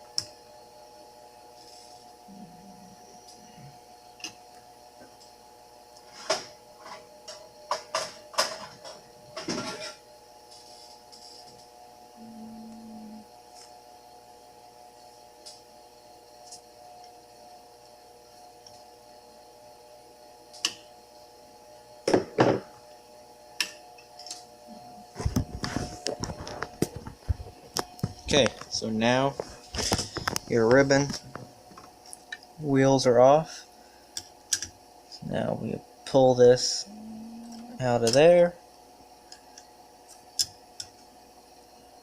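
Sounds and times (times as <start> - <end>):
steady electric hum: 0.0 - 42.0.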